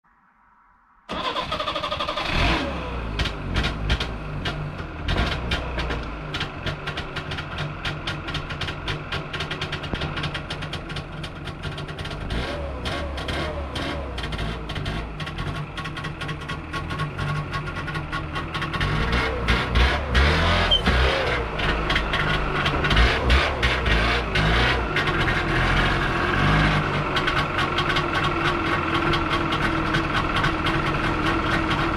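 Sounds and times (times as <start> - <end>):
two-stroke engine starting and running: 1.1 - 31.9.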